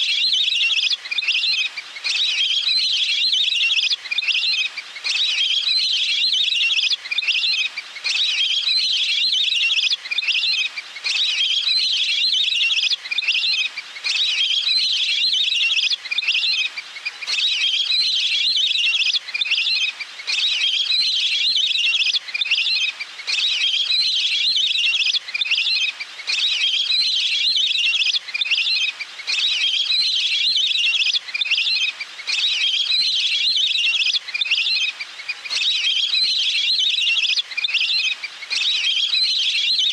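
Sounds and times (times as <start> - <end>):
waterbird high-pitched trilling call: 0.0 - 39.9.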